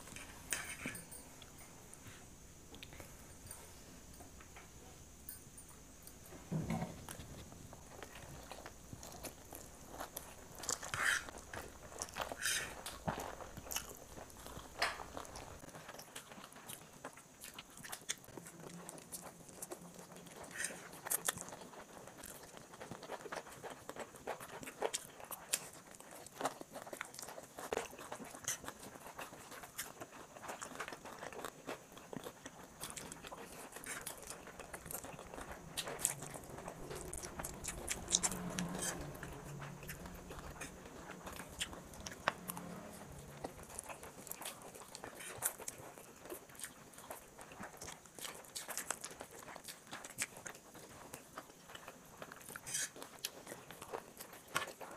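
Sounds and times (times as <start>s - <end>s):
wet chewing and slurping noodles: 7.2s - 54.9s.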